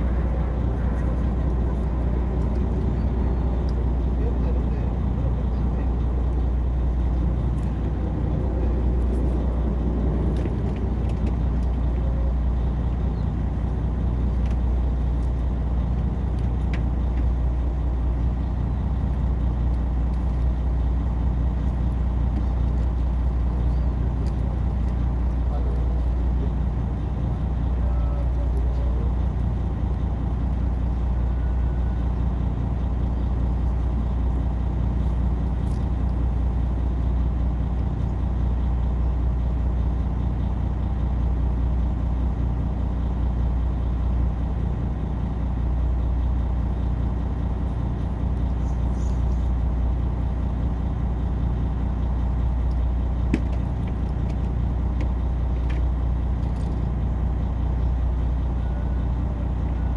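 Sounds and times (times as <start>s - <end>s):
boat engine humming: 0.0s - 59.9s.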